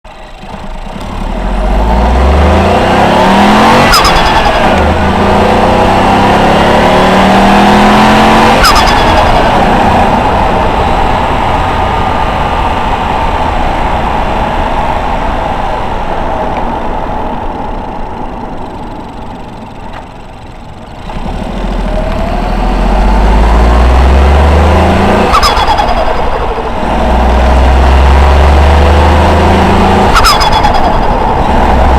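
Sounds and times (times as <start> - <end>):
car engine revving: 0.2 - 31.9.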